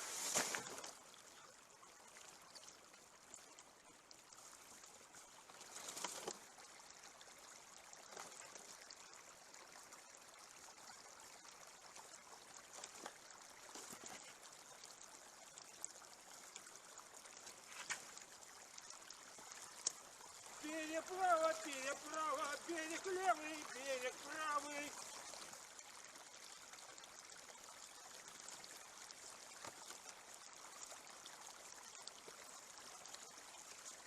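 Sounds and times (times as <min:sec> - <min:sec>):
stream trickling: 0:00.0 - 0:34.0.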